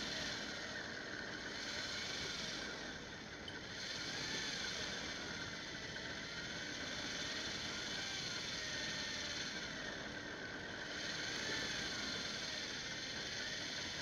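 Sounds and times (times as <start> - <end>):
fishing reel motor whining: 0.0 - 14.0.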